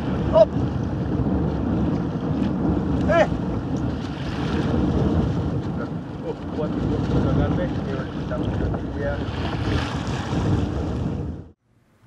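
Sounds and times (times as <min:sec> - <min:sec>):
waves rushing around a boat: 0:00.0 - 0:11.6
wind buffeting the microphone: 0:00.0 - 0:11.6.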